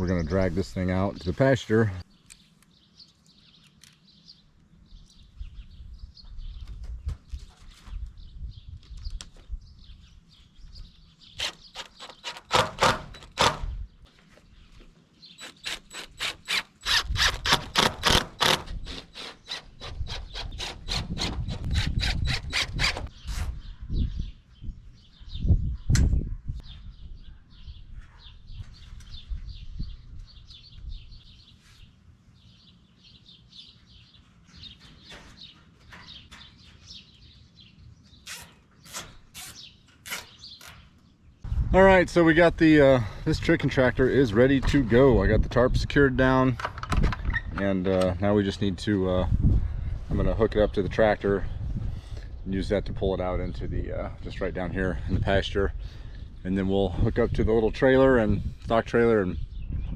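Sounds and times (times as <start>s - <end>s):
small birds chirping: 0.0s - 46.5s, 47.2s - 59.9s.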